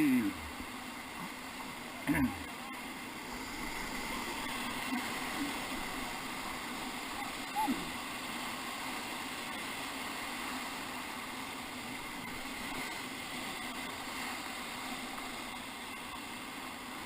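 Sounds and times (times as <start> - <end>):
whitewater rushing: 0.0 - 17.0.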